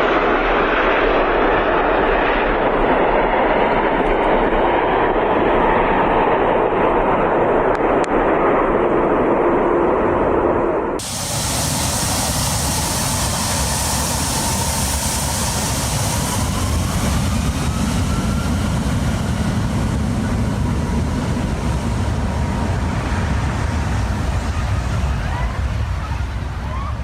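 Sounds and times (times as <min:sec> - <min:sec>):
aircraft engine rumble: 0:00.0 - 0:27.0.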